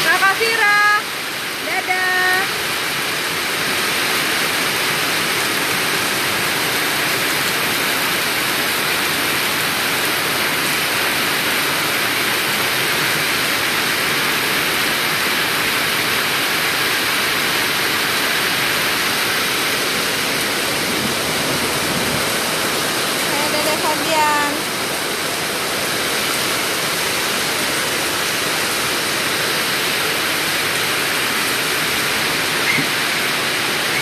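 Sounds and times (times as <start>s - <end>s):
rain falling steadily: 0.0s - 34.0s.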